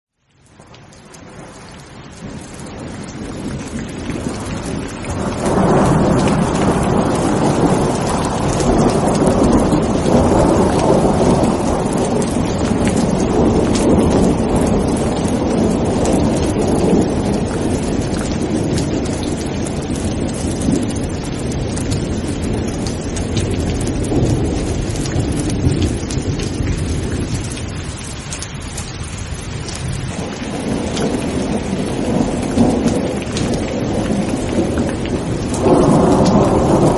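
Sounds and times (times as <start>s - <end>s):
heavy rain hissing: 1.1s - 36.9s
rolling thunder: 1.3s - 36.9s.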